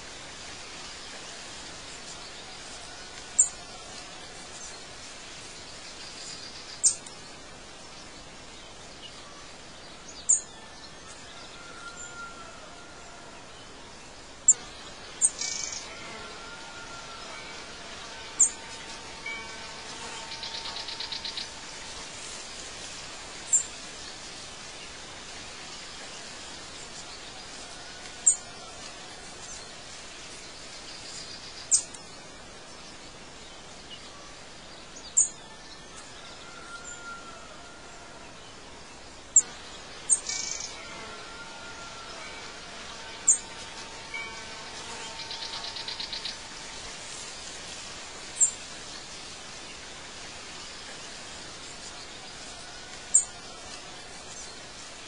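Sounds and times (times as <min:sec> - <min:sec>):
outdoor hiss: 0:00.0 - 0:55.0.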